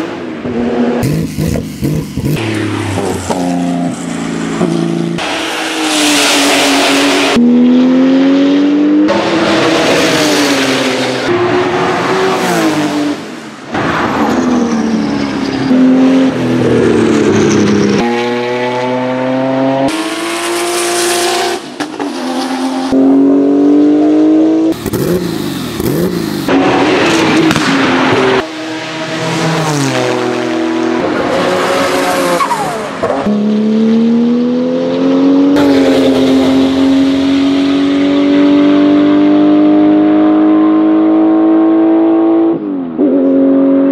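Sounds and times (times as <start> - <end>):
race car engines revving: 0.0 - 43.9.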